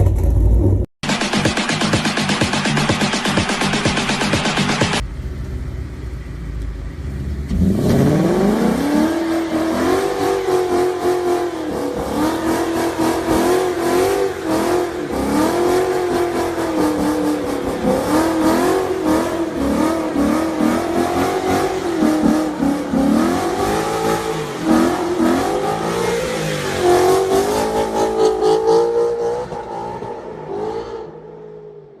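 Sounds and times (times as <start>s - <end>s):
car exhaust rumbling and revving: 0.0s - 32.0s.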